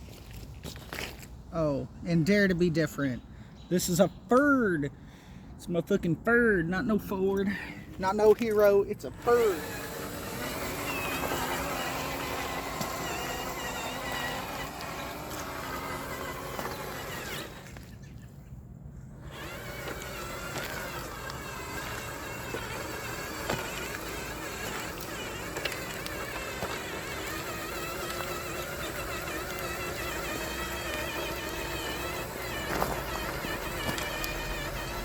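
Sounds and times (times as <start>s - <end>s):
tyres on gravel: 0.0s - 4.9s, 5.6s - 35.0s
electric motor and gearbox whine: 5.9s - 18.3s, 18.9s - 35.0s.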